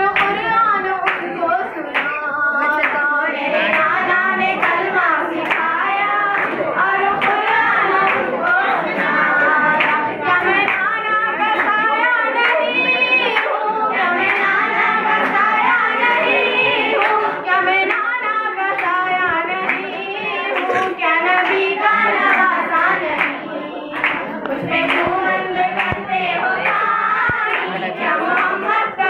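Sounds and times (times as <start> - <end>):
hand claps: 0.0 - 11.8, 12.4 - 15.4, 16.0 - 29.0
girls singing into a microphone: 0.0 - 29.0.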